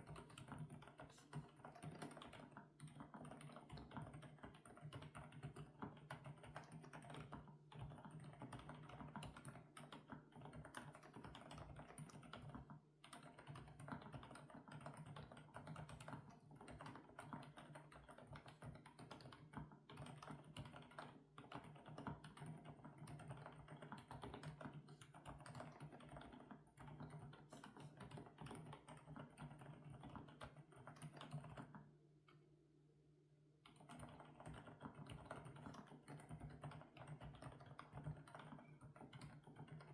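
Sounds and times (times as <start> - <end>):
fast typing on mechanical keyboard: 0.0 - 31.8, 33.6 - 39.9.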